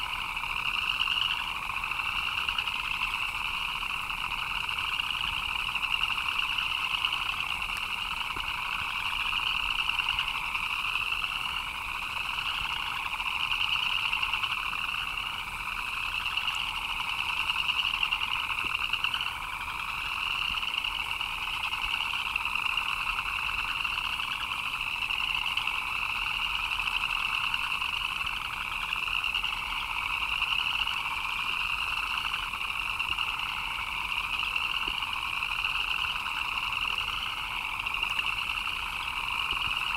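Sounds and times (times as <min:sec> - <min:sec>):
frogs trilling: 0:00.0 - 0:39.9.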